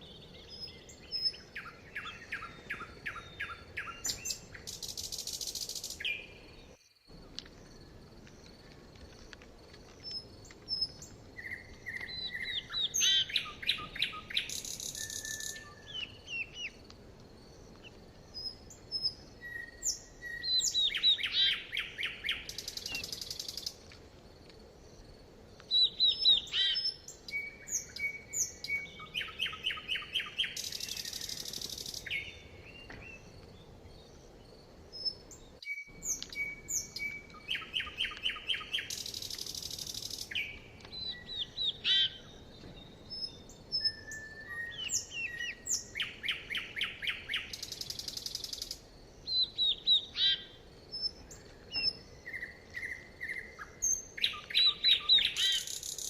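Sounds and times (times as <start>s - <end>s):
songbirds singing: 0.0s - 24.0s, 24.6s - 56.0s.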